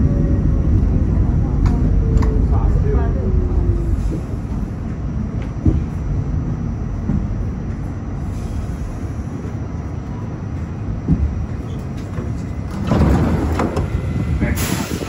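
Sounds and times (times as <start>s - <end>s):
subway car wheels rumbling: 0.0s - 15.0s.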